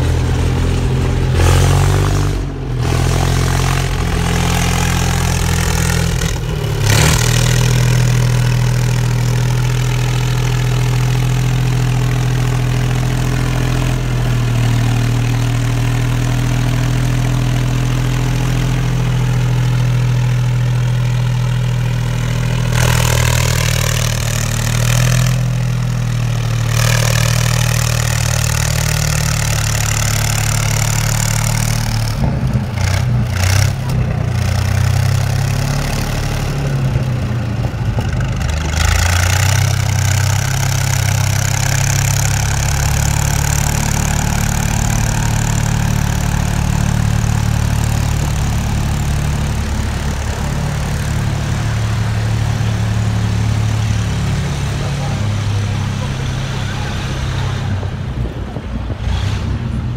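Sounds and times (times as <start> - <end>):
engine idling: 0.0 - 59.1.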